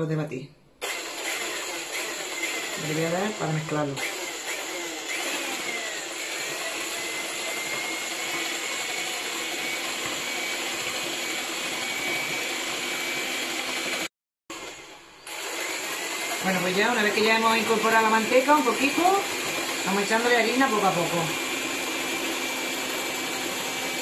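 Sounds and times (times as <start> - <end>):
electric hand mixer whining: 0.8 - 24.0.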